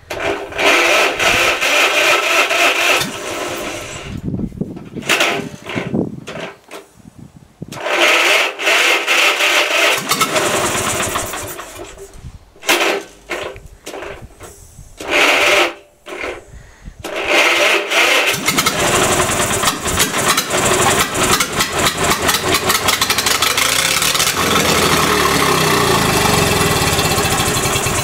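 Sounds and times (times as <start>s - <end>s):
electric starter cranking engine: 0.0s - 6.6s, 7.7s - 28.0s.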